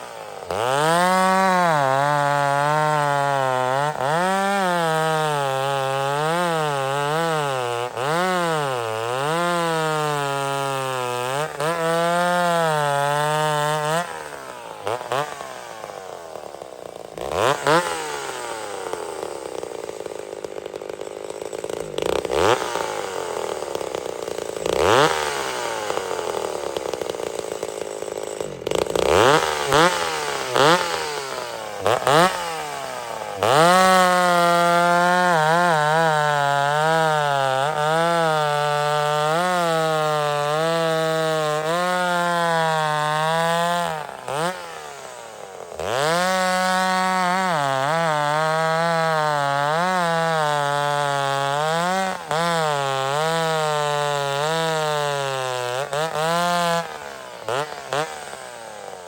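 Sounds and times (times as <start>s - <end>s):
chainsaw cutting: 0.0s - 59.0s.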